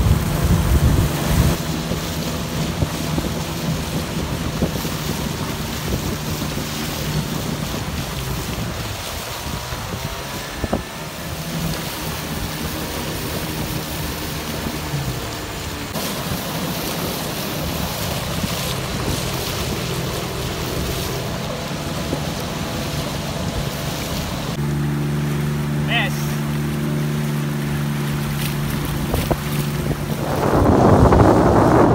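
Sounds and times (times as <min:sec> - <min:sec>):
wind on microphone: 0:00.0 - 0:24.6, 0:27.8 - 0:31.9
outboard motors running: 0:00.0 - 0:31.9
water splashing along hulls: 0:00.0 - 0:31.9.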